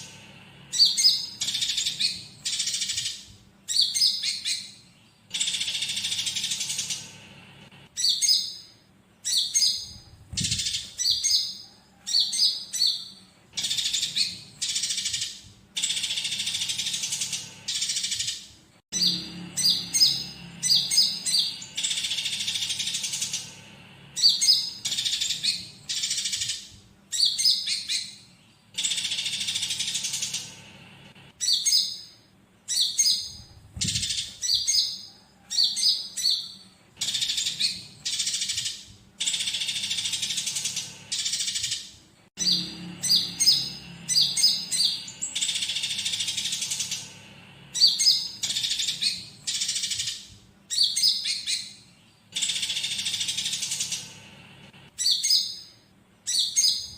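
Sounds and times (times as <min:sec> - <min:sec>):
bird chirping: 0:00.0 - 0:56.9
sparrows fighting calls: 0:00.0 - 0:56.9.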